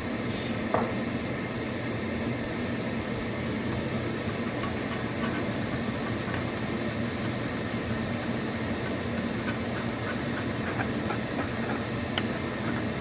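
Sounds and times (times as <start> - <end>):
appliance humming and hissing: 0.0 - 13.0.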